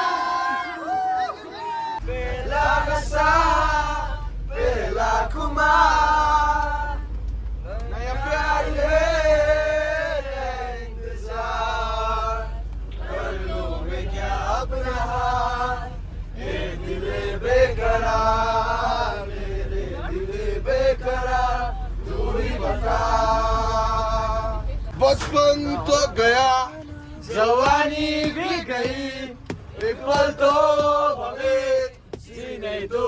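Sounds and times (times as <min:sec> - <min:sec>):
low steady hum: 0:00.0 - 0:33.0
voices singing: 0:00.0 - 0:33.0.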